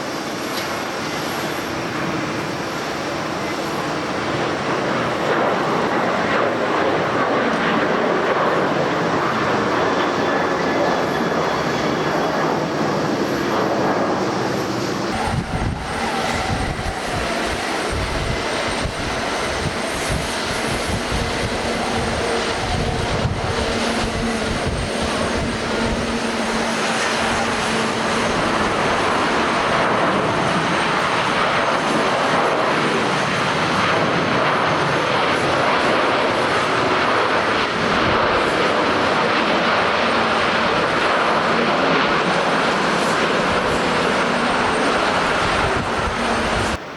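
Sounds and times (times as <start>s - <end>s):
jet engines running loud: 0.0s - 46.9s
wind buffeting microphone: 0.1s - 46.9s.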